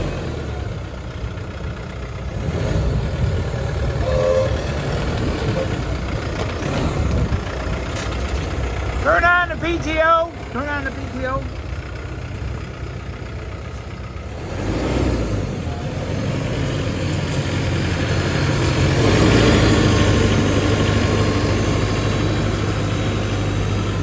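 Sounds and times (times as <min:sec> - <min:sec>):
tractor diesel engine revving: 0:00.0 - 0:24.0.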